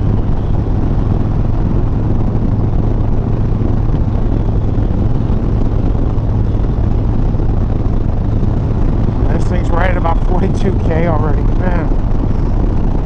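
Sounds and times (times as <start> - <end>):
motorcycle engine running: 0.0 - 13.0
wind noise: 0.0 - 13.0.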